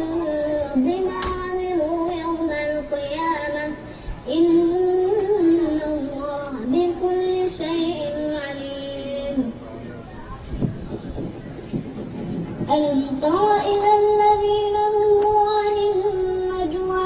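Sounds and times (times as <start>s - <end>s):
boy chanting recitation: 0.0s - 11.4s, 12.6s - 17.0s.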